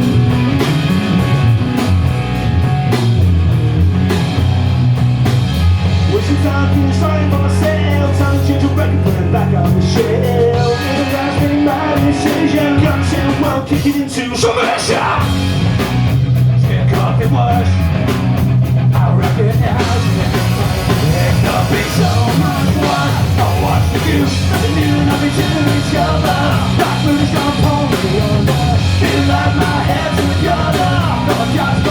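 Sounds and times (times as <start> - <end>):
electric guitar: 0.0 - 31.9
punk rock band playing live: 0.0 - 31.9.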